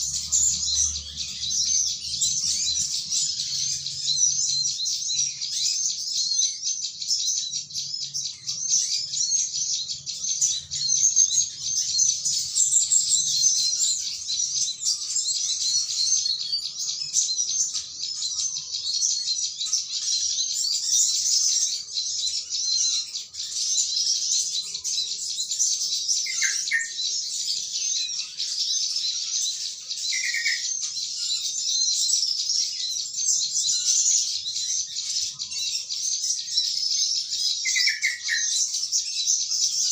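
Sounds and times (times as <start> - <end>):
flock of small birds chirping: 0.0 - 39.9
lower bird calls: 0.0 - 39.9.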